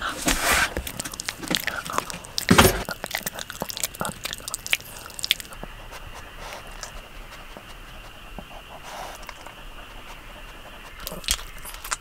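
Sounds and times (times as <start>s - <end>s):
dog chewing and crunching: 0.1s - 12.0s.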